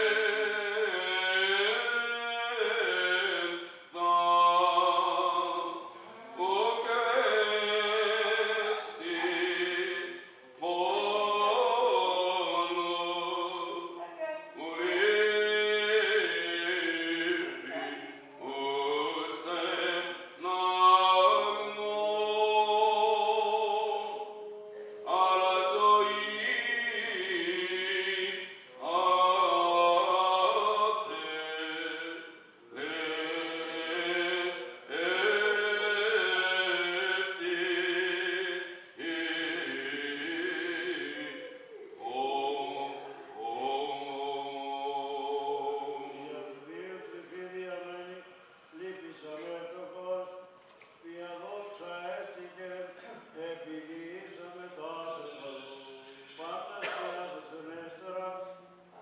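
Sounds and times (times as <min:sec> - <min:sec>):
person chanting ornamented phrases: 0:00.0 - 0:50.5, 0:51.1 - 0:59.0.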